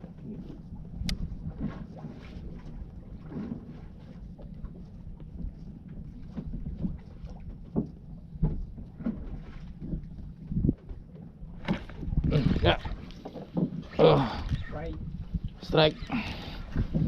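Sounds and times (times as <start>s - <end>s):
boat engine low rumble: 0.0s - 17.0s
wind on microphone: 0.0s - 17.0s.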